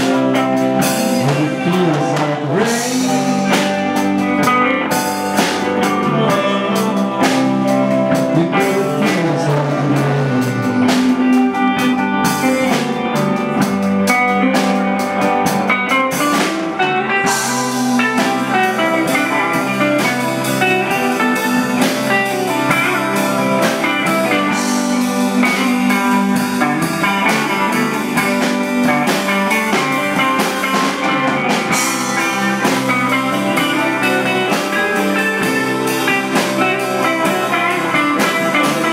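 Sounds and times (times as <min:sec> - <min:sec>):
electric guitar: 0:00.0 - 0:38.9
live blues band playing: 0:00.0 - 0:38.9.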